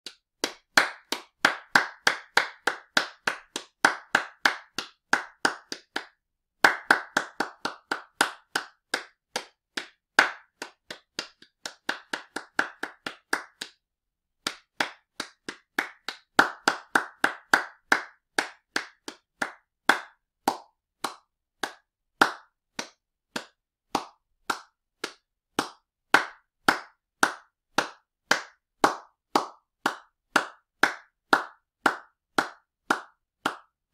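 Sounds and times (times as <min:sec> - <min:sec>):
hands clapping: 0:00.0 - 0:33.9.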